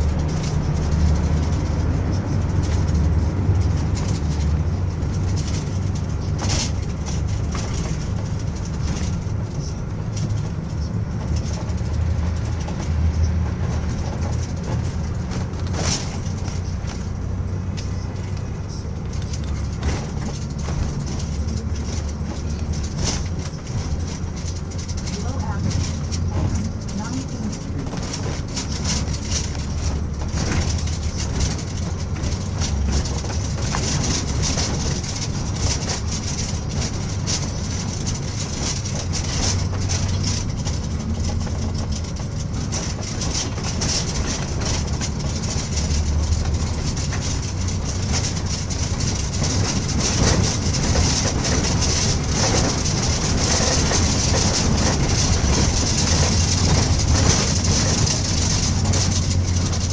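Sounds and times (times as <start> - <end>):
bus engine and tyre rumble: 0.0 - 59.9.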